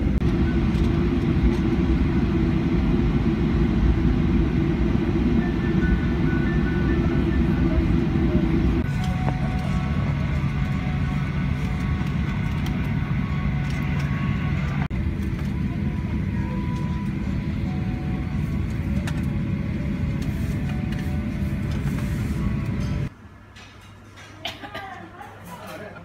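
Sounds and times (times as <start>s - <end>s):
airplane cabin engine rumble: 0.0s - 23.1s.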